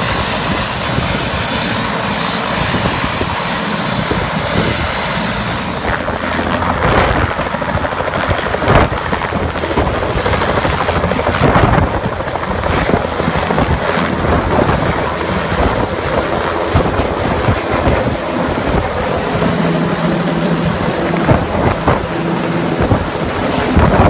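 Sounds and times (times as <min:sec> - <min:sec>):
helicopter rotor and turbine: 0:00.0 - 0:24.0.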